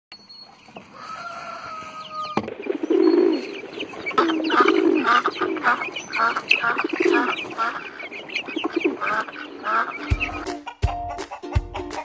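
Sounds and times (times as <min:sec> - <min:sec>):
poultry calling: 0:00.4 - 0:11.2.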